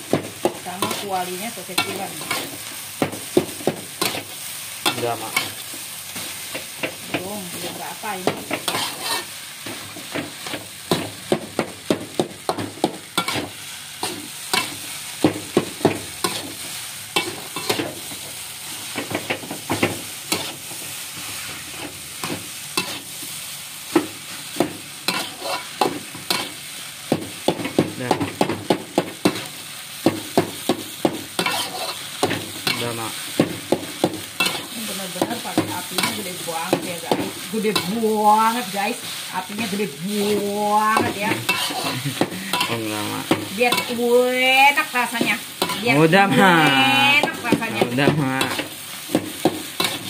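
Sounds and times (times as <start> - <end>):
food sizzling: 0.0 - 50.0
metal spatula scraping a wok: 0.4 - 27.8, 30.6 - 46.1, 46.7 - 50.0.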